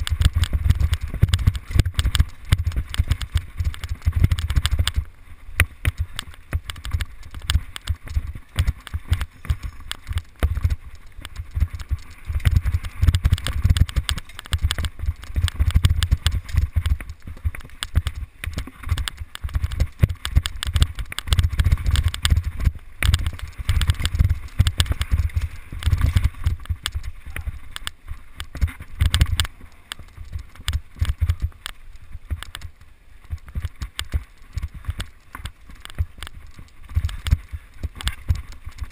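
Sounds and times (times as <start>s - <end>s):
bike rattling on rough trail: 0.0s - 38.9s.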